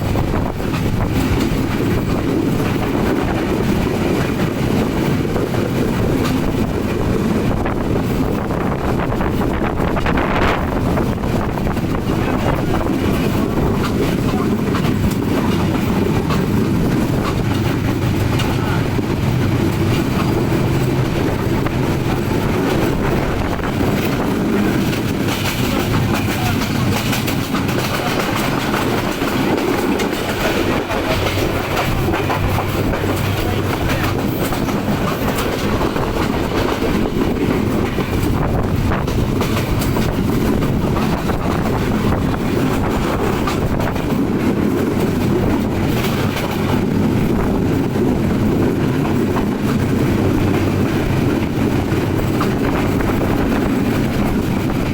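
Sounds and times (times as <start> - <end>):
train rumbling along track: 0.0 - 54.9
wheels clattering over rail joints: 0.0 - 54.9.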